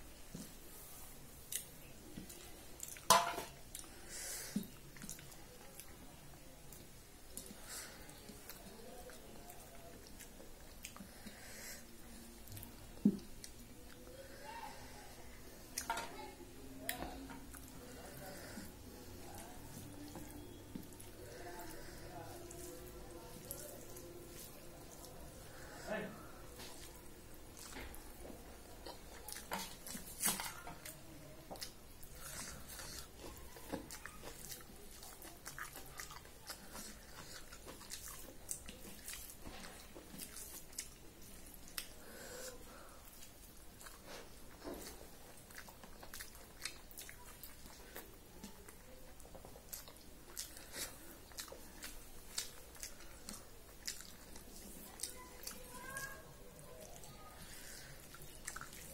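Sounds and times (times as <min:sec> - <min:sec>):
person chewing food: 0:00.2 - 0:16.2, 0:16.8 - 0:58.9.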